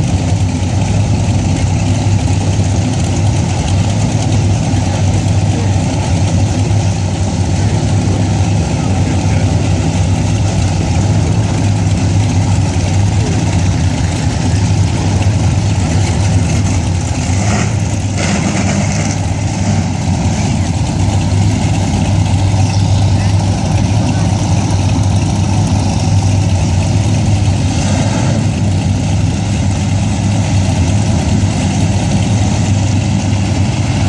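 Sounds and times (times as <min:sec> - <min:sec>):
large engine idling: 0:00.0 - 0:34.0.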